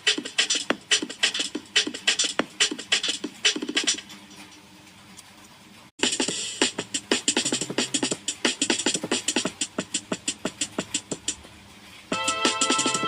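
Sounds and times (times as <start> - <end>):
music with beatbox-like beat: 0.0 - 4.3, 6.0 - 13.0.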